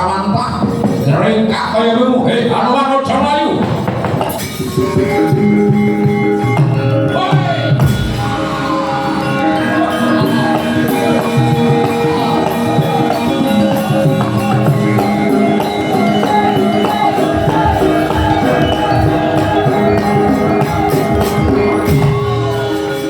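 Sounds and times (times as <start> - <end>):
ringing metallophone tones: 2.4 - 23.0.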